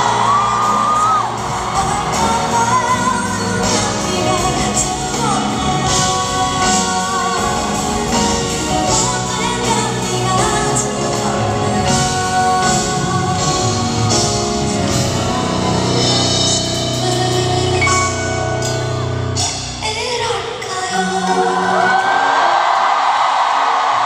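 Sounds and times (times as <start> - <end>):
instrumental accompaniment: 0.0 - 21.9
woman singing into microphone: 0.0 - 22.3.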